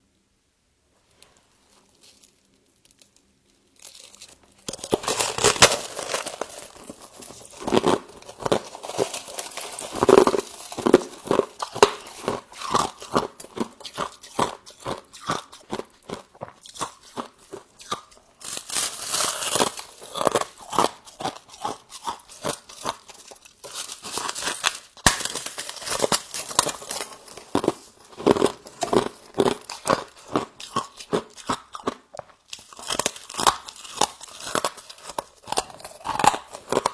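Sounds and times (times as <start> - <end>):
chewing crunchy ice: 3.0 - 36.9.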